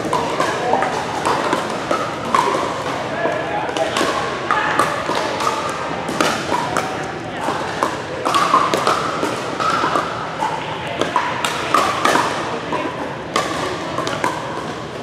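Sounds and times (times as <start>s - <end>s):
paddles hitting plastic ball: 0.0s - 15.0s.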